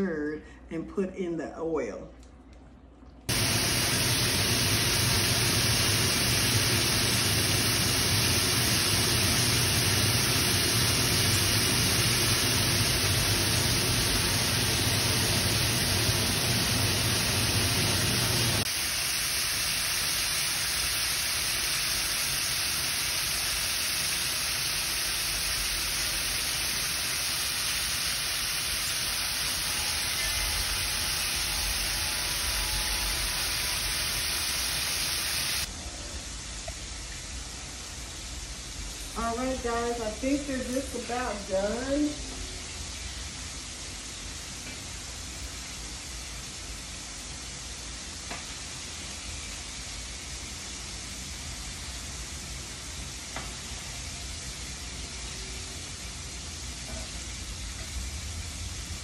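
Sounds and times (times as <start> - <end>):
oil sizzling while deep-frying: 3.3 - 59.0.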